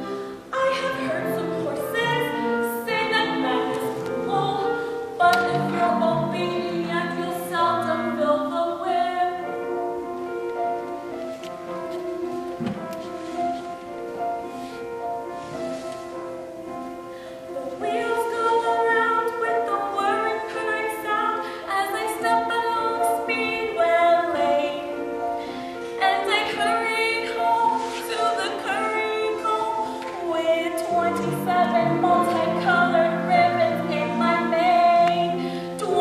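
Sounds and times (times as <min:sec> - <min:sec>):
musical accompaniment: 0:00.0 - 0:36.0.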